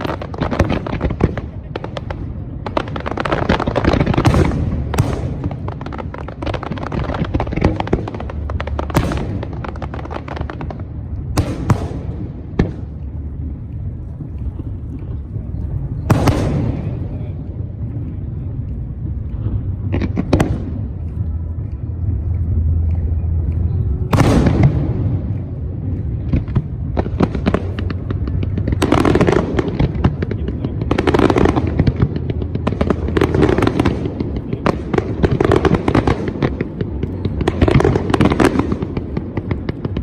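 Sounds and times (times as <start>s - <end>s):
fireworks crackling and booming: 0.0s - 40.0s.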